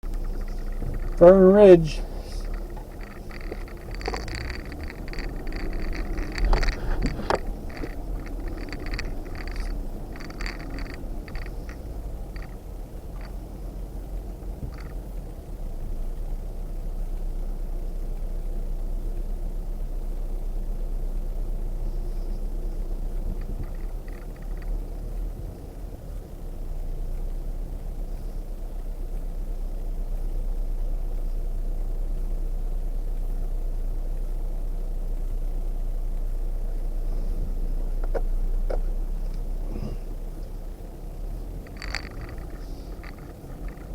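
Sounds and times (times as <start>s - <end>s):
off-road vehicle engine rumbling: 0.0s - 43.9s.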